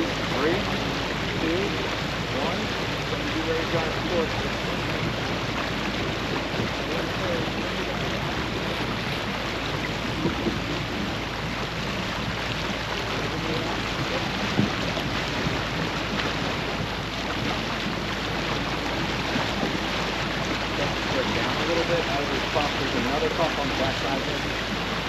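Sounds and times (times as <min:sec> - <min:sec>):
faint voices: 0:00.0 - 0:25.0
water rushing past boat: 0:00.0 - 0:25.0.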